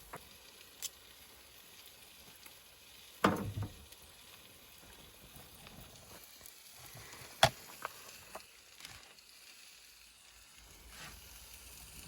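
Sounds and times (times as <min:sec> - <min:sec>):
food sizzling in skillet: 0:00.0 - 0:12.0.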